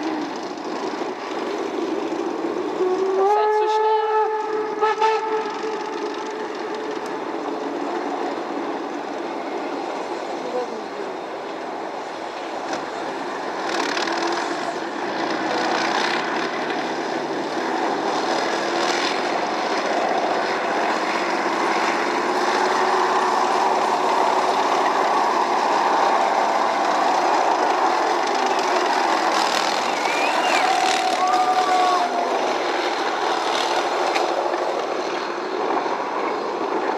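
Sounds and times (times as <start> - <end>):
steam train hauling coaches: 0.0 - 36.9
tracked vehicle diesel engine: 0.0 - 36.9.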